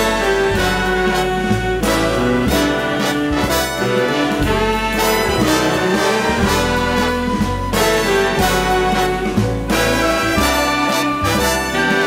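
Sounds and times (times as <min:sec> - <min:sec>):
jazz big band playing: 0:00.0 - 0:12.0
moving bass line: 0:00.0 - 0:12.0
trumpets and trombones chords: 0:00.0 - 0:12.0.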